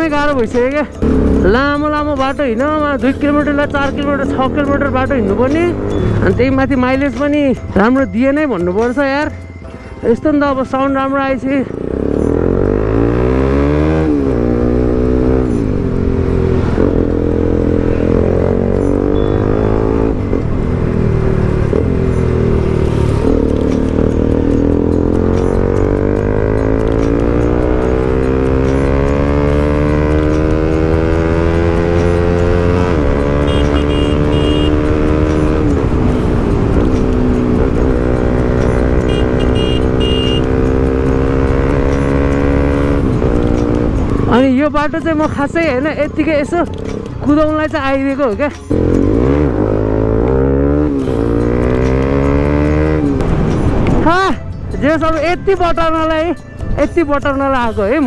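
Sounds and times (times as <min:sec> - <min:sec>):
motorcycle engine accelerating: 0:01.0 - 0:02.0, 0:02.8 - 0:07.8, 0:11.7 - 0:47.5, 0:48.7 - 0:54.1.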